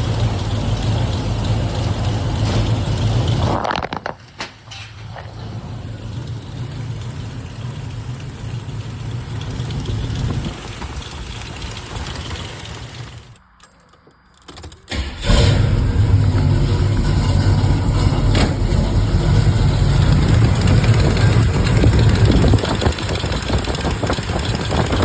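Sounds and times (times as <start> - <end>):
car engine idling: 0.0 - 13.6, 14.9 - 25.0.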